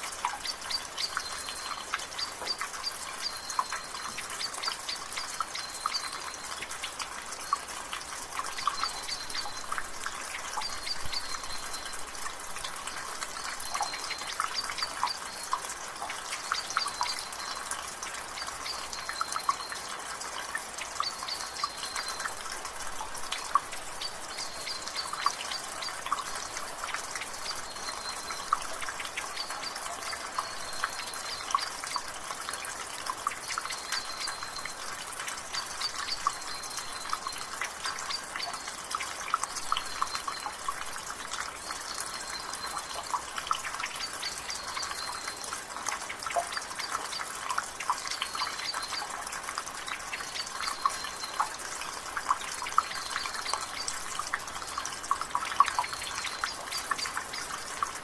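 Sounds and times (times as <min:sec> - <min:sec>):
drizzle patter: 0:00.0 - 0:58.0
water dripping from gutter: 0:00.0 - 0:58.0.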